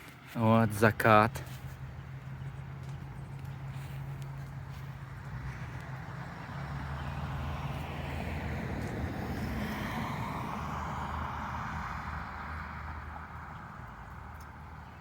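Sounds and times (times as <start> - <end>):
vehicle passing by: 1.3 - 15.0.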